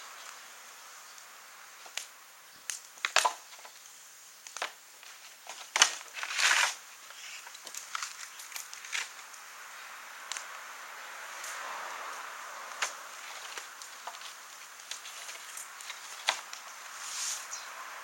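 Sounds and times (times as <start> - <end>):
wood fire crackling: 0.0 - 17.4.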